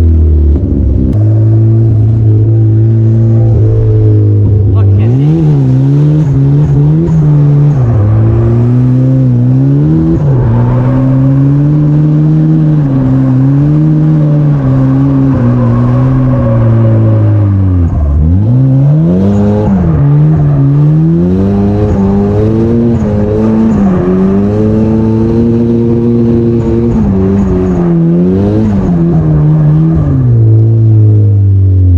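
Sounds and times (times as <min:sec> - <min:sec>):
car engine while driving: 0:00.0 - 0:31.9.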